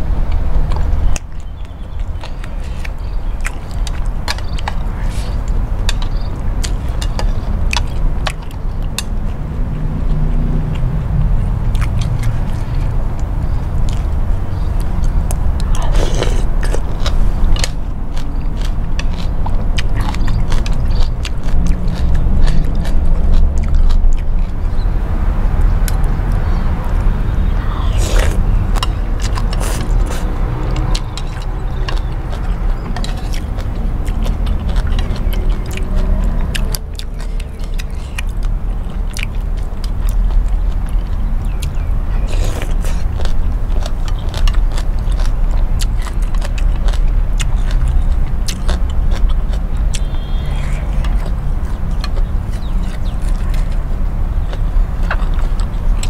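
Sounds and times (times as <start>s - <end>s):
chewing and slurping noodles: 0.0s - 56.0s
low rumble: 0.0s - 56.0s.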